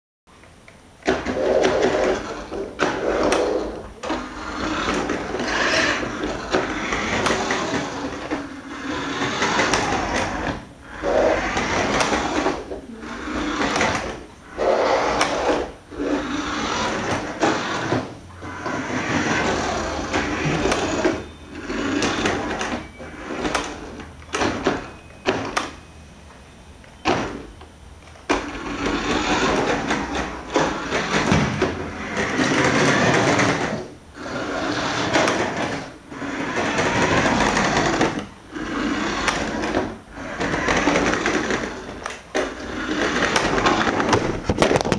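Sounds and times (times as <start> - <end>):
tyres rolling on laminate floor: 1.0 - 44.9.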